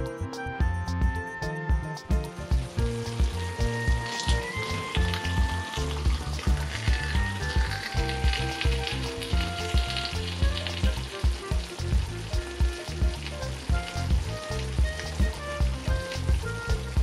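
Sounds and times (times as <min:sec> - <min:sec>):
background music with low beat: 0:00.0 - 0:17.0
pan of food sizzling: 0:02.1 - 0:17.0.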